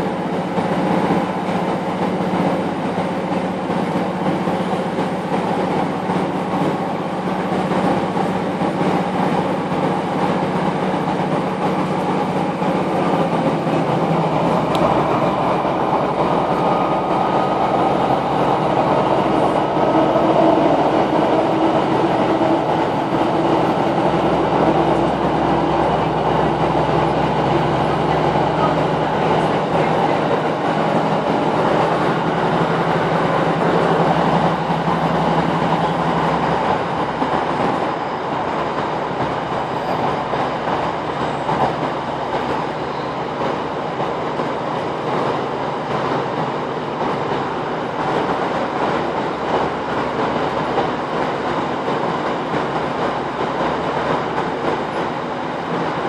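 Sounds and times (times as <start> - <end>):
diesel engine drone: 0.0 - 56.0
wheel and rail noise: 0.0 - 56.0.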